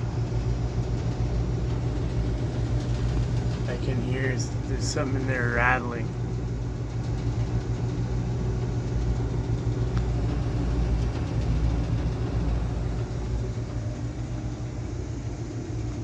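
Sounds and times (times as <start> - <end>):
furnace humming: 0.0 - 16.0
rattle inside furnace cabinet: 0.0 - 16.0.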